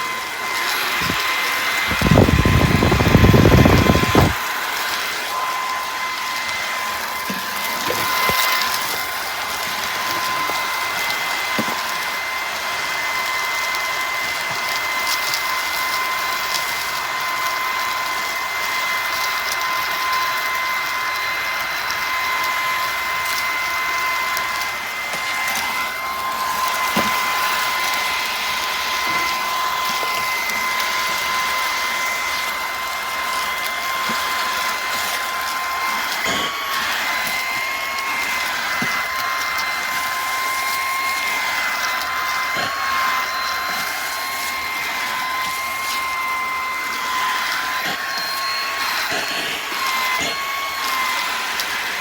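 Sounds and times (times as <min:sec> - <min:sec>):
cordless vacuum running: 0:00.0 - 0:52.0.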